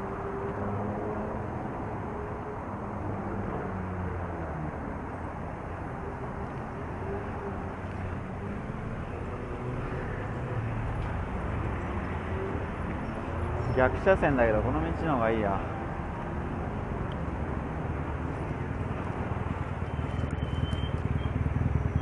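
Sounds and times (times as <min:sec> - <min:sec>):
car engines humming: 0:00.0 - 0:22.0.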